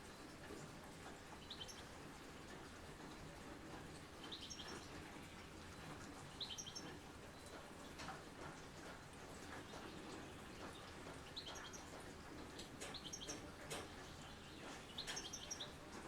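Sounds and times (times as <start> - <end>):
soft rain hiss: 0.0 - 16.0.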